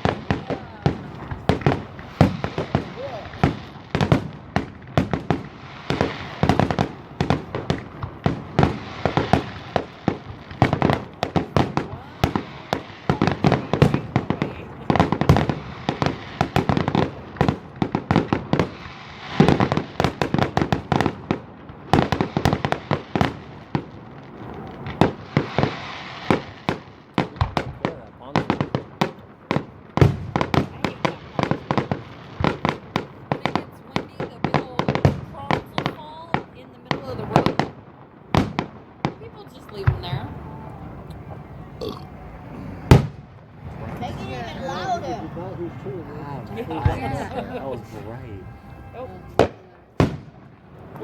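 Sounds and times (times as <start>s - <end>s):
fireworks bangs and crackling: 0.0s - 51.0s.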